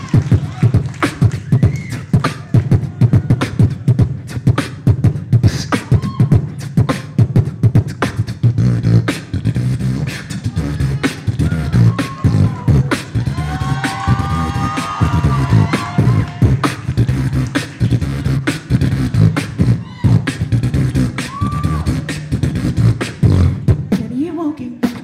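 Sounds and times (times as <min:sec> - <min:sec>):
beatboxing through microphone: 0:00.0 - 0:25.0
held vocal notes: 0:00.0 - 0:25.0.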